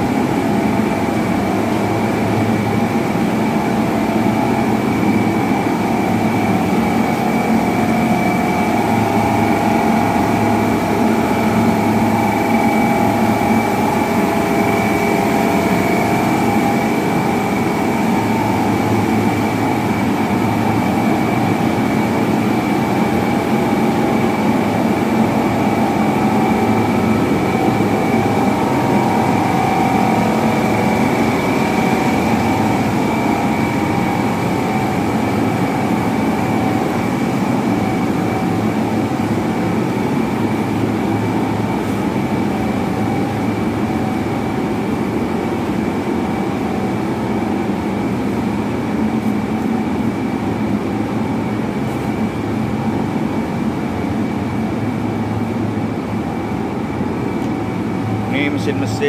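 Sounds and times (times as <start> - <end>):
high whine: 0.0 - 59.0.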